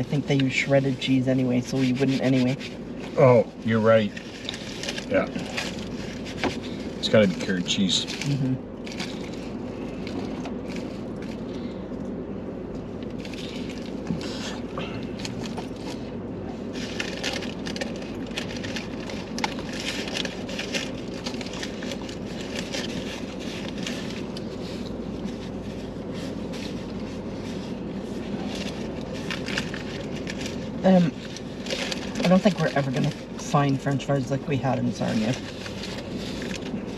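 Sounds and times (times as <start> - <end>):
steady low hum: 0.0 - 36.9
paper wrapping rustling: 1.4 - 11.6, 13.0 - 36.9.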